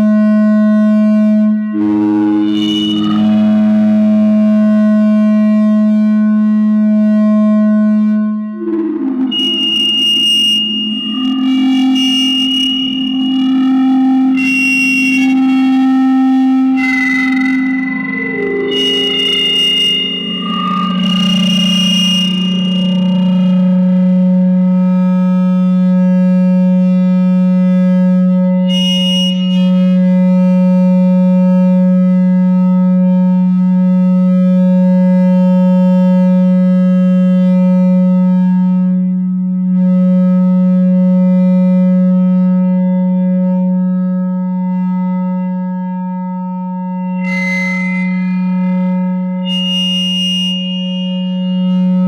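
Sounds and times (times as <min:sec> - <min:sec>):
mixer feedback drone: 0:00.0 - 0:52.0.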